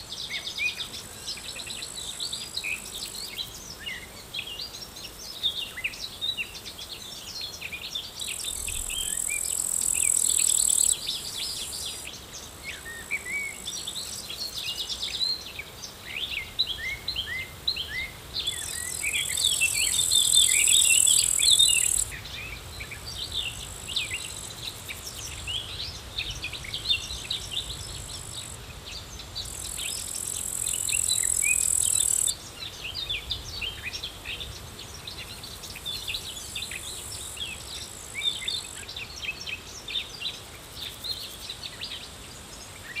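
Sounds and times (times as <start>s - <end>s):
high insect buzz: 0.0s - 42.9s
small birds chirping: 0.2s - 43.0s.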